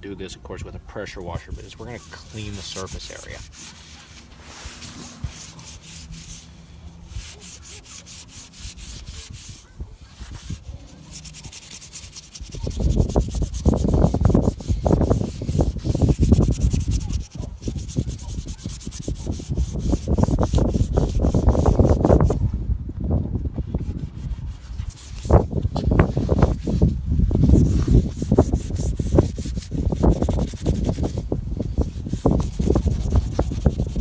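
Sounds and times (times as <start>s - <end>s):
scratchy scraping strokes: 1.1s - 22.4s, 23.7s - 34.0s.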